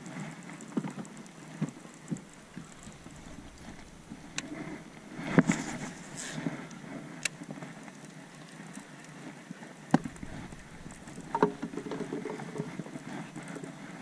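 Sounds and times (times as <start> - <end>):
waves lapping against boat hull: 0.6 - 14.0.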